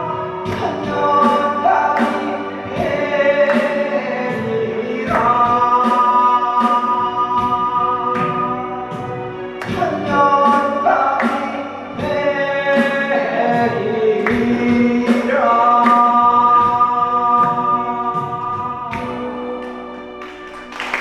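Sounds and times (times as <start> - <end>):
person singing pop ballad: 0.0 - 20.1
backing music with steady beat: 0.0 - 21.0.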